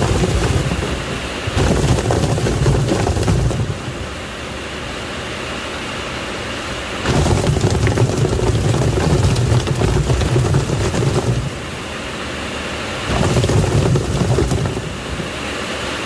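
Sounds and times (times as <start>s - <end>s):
washing machine churning water: 0.0s - 5.3s, 6.8s - 16.0s.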